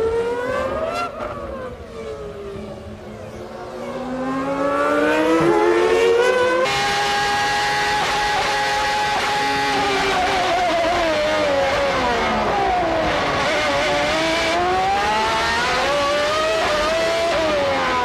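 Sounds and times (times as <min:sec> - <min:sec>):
race car engine at high revs: 0:00.0 - 0:18.0.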